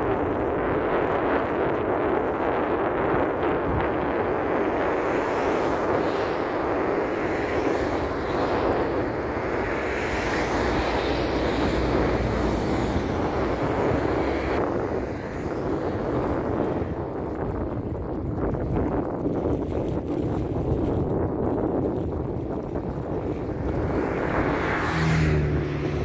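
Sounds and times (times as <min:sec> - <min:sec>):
distant jet engine rumble: 0:00.0 - 0:18.8, 0:22.2 - 0:26.0.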